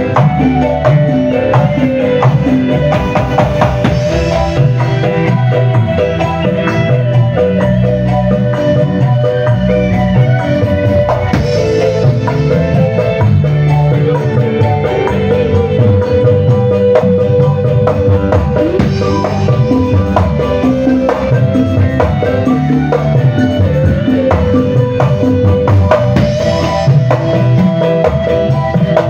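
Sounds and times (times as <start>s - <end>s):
live band playing: 0.0s - 29.0s.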